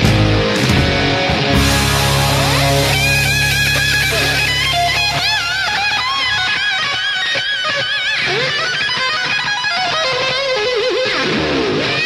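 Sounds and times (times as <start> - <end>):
electric guitar solo: 0.0 - 12.0.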